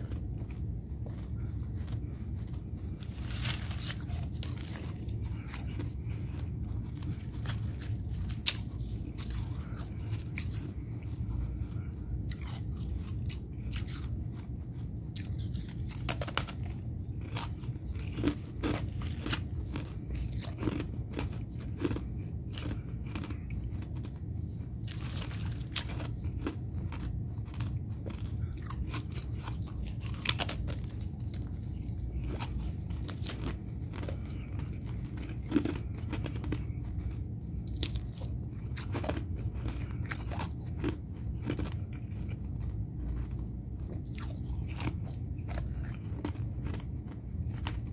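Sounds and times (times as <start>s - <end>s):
person crunching frost: 0.0s - 47.9s.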